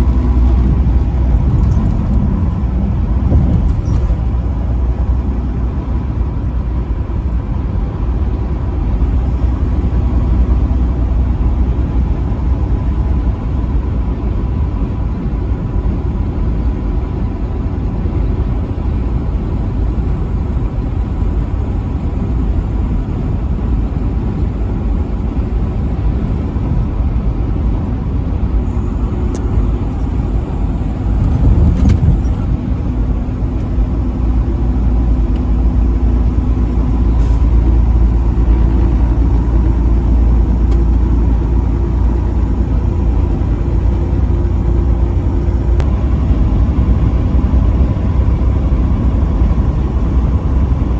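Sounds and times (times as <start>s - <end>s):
vehicle road rumble: 0.0s - 50.9s.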